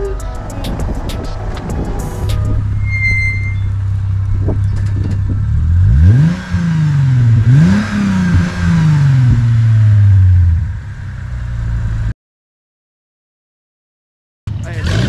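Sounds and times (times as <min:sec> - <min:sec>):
car engine revving: 0:00.0 - 0:12.1, 0:14.5 - 0:15.0.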